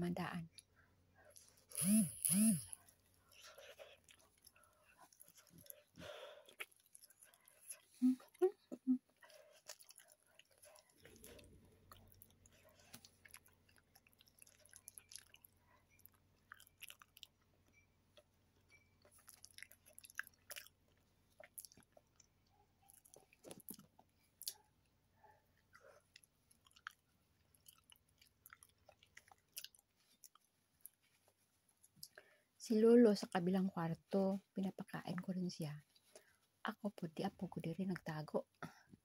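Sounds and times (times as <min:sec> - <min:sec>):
faint chewing: 0:00.5 - 0:32.4.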